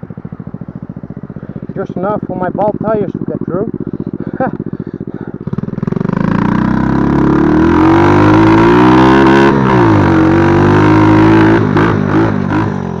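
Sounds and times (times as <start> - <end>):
quad engine running under throttle: 0.0 - 13.0.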